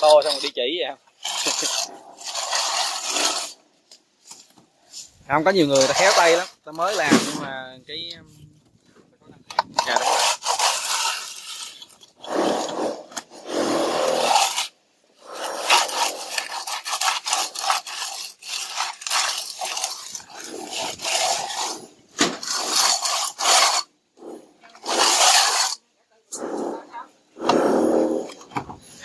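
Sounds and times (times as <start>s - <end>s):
plastering tools scraping mortar: 0.0s - 29.0s.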